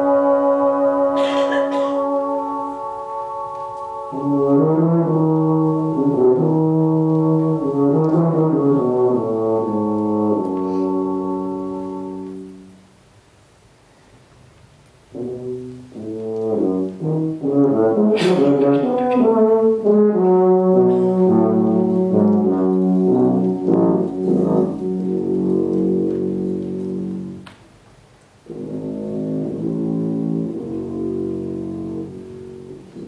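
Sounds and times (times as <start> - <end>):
brass band playing chords: 0.0 - 12.8, 15.1 - 27.4, 28.5 - 33.0.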